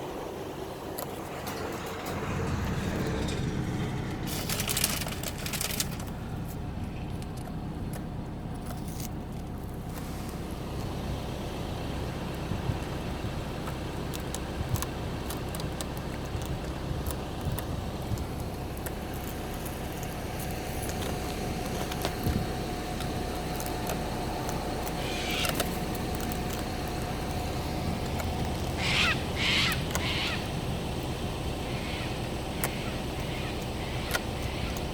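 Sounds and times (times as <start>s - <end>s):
low background rumble: 0.0s - 34.9s
scattered clicks: 0.9s - 9.5s, 13.6s - 34.9s.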